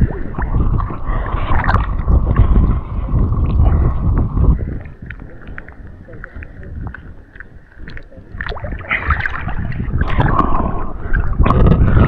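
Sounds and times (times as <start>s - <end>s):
fish thrashing in water: 0.0s - 12.0s.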